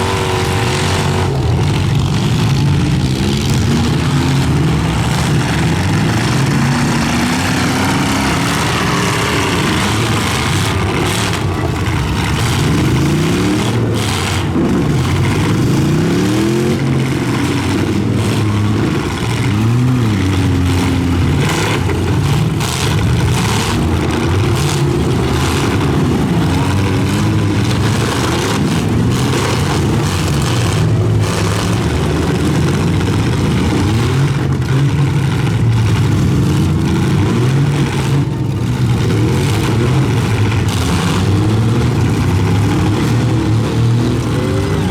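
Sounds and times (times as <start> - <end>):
truck engines revving: 0.0 - 44.9
trucks colliding: 0.0 - 44.9.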